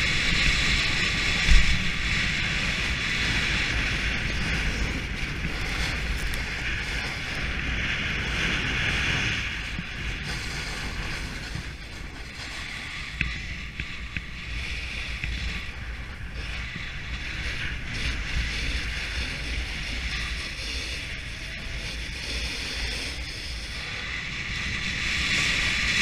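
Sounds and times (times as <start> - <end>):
snowboard scraping over snow: 0.0 - 26.0
wind buffeting microphone: 0.0 - 26.0.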